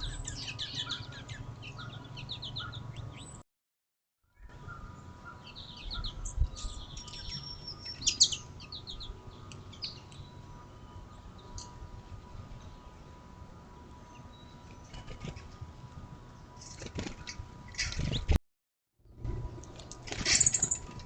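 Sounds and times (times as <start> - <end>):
small songbirds chirping: 0.0 - 3.4, 4.3 - 18.4, 19.6 - 21.0.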